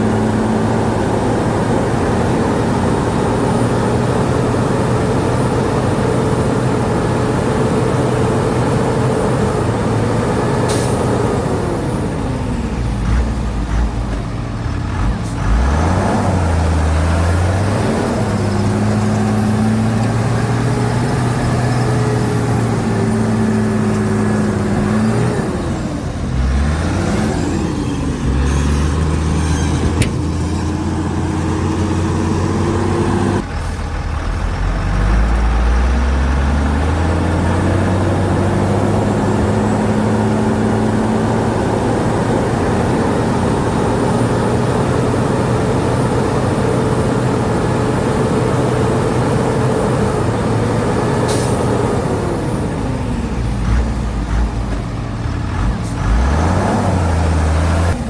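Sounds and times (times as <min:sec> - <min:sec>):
heavy diesel machinery working: 0:00.0 - 0:58.0.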